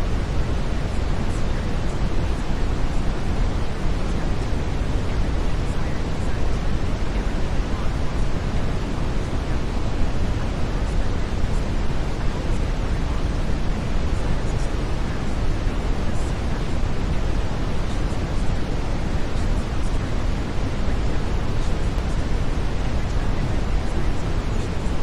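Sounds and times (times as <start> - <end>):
steady brown noise rumble: 0.0 - 25.0.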